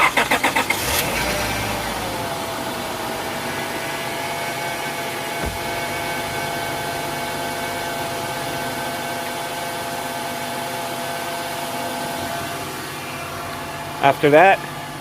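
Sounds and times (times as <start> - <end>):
car engine idling with whine: 0.0 - 15.0.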